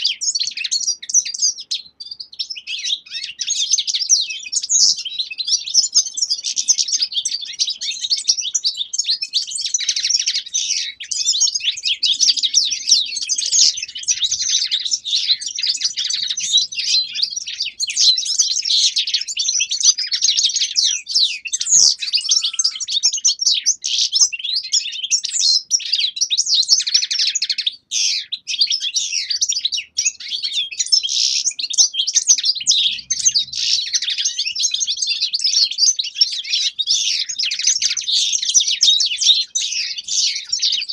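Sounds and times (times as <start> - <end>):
finches twittering chorus: 0.0 - 40.9.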